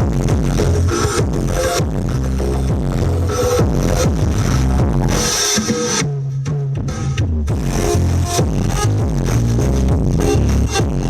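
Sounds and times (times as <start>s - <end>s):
electronic dance music: 0.0s - 6.1s, 7.5s - 11.0s.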